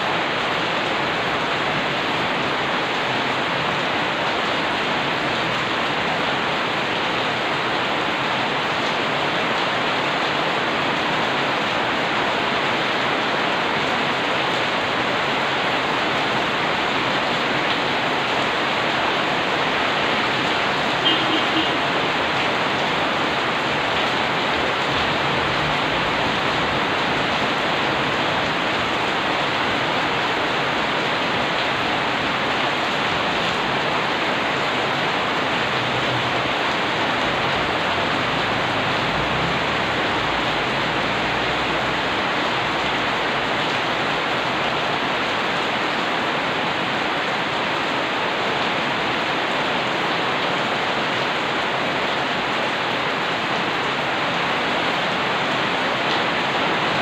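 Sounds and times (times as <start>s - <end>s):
heavy rain splashing: 0.0s - 57.0s.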